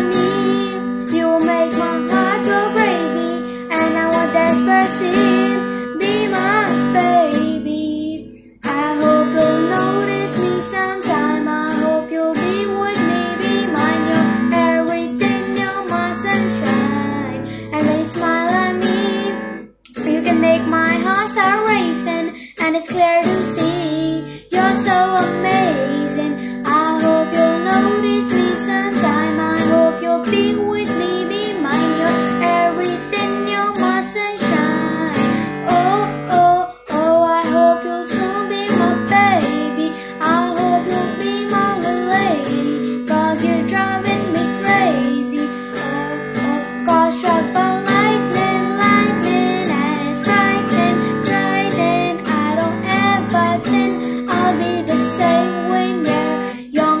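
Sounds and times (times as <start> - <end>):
acoustic guitar strumming: 0.0 - 57.0
girl singing: 0.0 - 57.0.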